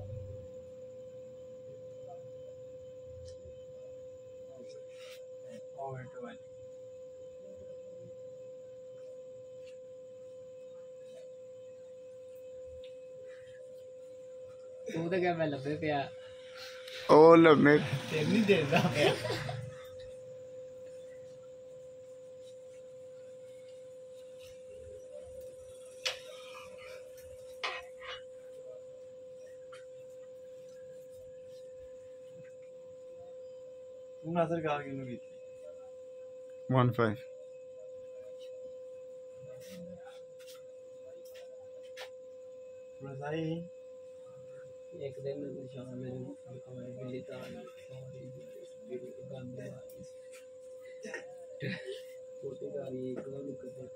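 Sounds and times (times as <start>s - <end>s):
high-pitched electrical whine: 0.0s - 53.9s
low room noise: 0.0s - 53.9s.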